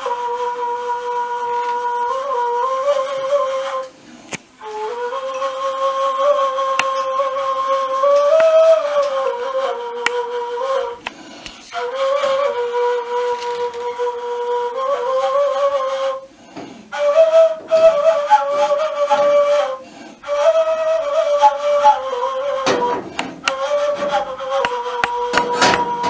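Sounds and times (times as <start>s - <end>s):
end-blown flute melody: 0.0s - 3.9s, 4.6s - 11.0s, 11.7s - 16.3s, 16.9s - 26.0s.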